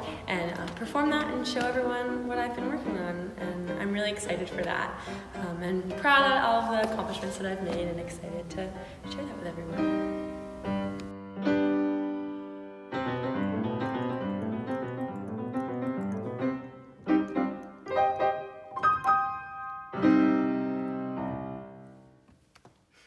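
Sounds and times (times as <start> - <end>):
grand piano playing: 0.0 - 22.3.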